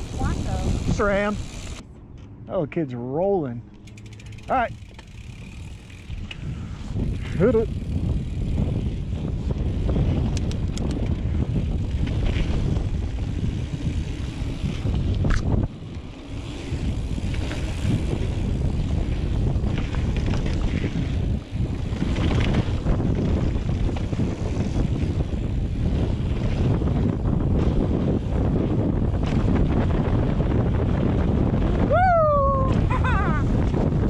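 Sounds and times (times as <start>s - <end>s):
bike rattling on dirt trail: 0.0s - 2.4s, 3.2s - 31.9s, 32.5s - 34.0s
wind over microphone: 0.0s - 2.6s, 3.2s - 34.0s.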